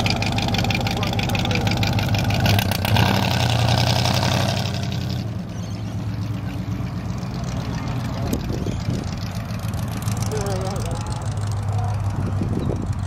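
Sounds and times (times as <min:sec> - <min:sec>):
truck engine driving off: 0:00.0 - 0:13.0.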